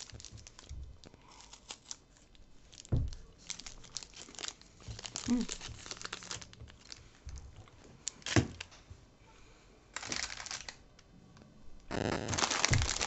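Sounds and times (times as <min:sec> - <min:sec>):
plastic chip bag crinkling: 0:00.0 - 0:08.7, 0:09.9 - 0:11.0, 0:11.9 - 0:13.0.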